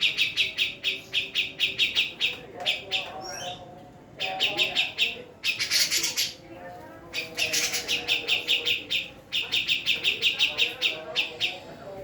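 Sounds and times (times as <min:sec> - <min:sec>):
bird chirping in rapid runs: 0:00.0 - 0:12.0.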